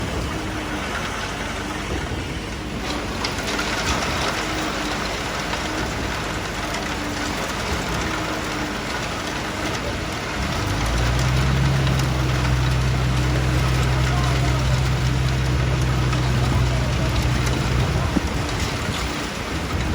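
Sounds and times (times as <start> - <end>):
deep engine drone: 0.0 - 19.9.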